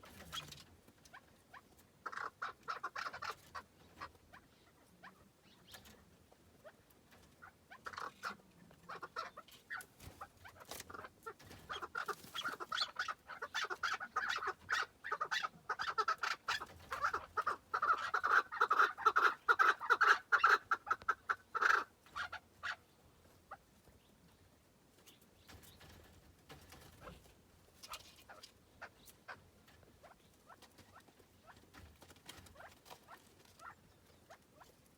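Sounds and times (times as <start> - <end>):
partridge clucking calls: 0.0 - 34.9.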